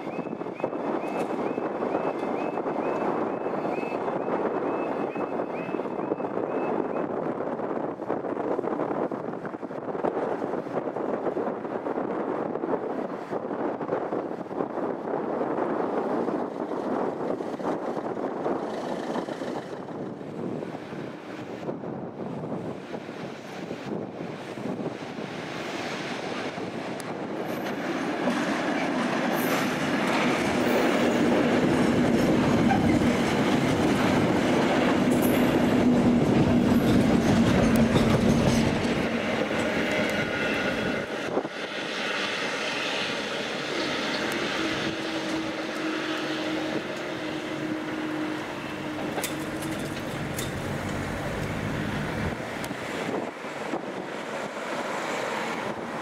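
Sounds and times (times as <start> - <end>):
train passing on rails: 0.0 - 56.0.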